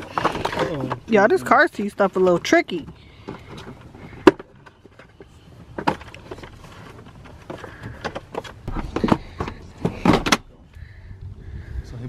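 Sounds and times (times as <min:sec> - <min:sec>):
plastic clunks and rattles: 0:00.0 - 0:01.4, 0:02.2 - 0:10.6.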